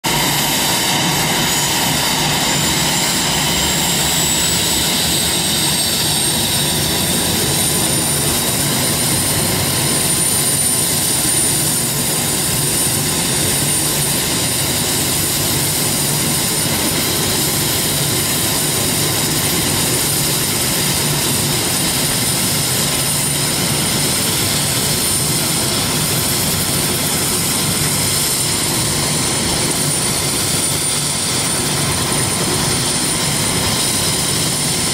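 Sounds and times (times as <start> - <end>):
helicopter turbine whine: 0.0 - 34.9.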